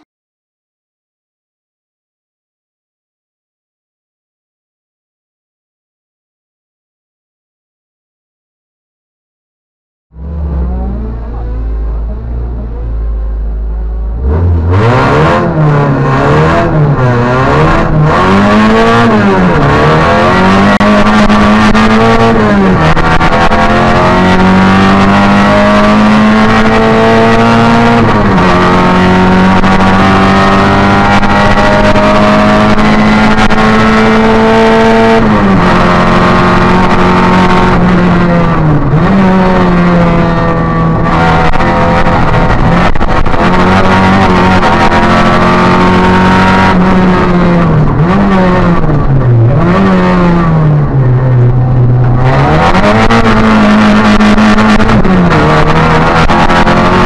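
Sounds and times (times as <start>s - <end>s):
car engine accelerating hard: 10.1s - 57.0s.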